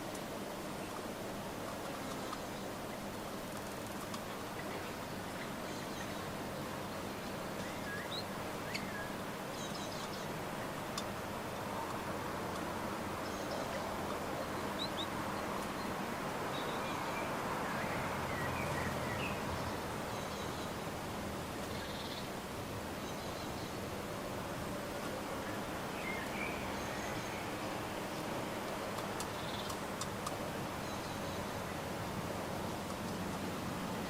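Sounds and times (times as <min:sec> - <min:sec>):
outdoor background hiss: 0:00.0 - 0:34.0
birds chirping: 0:02.0 - 0:34.0.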